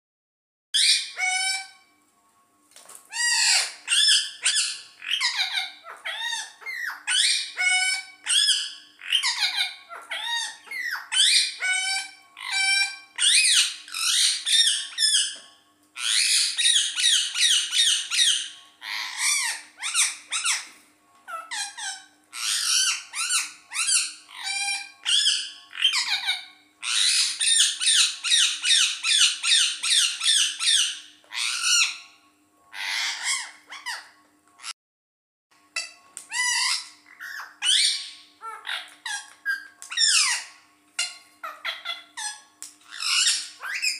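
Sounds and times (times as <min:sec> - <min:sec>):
parakeet calling and chattering: 0:00.8 - 0:01.8, 0:03.1 - 0:34.8, 0:35.7 - 0:43.9.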